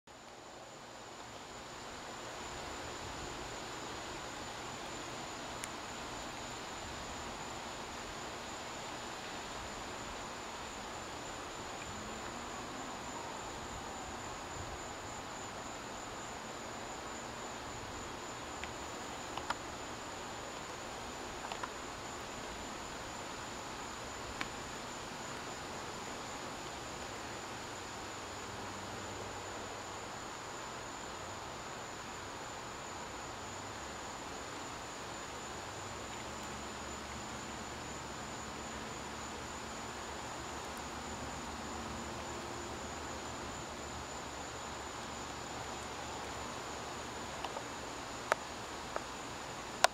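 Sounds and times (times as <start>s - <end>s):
faint hiss: 0.1s - 49.9s
insect chorus: 0.1s - 49.9s.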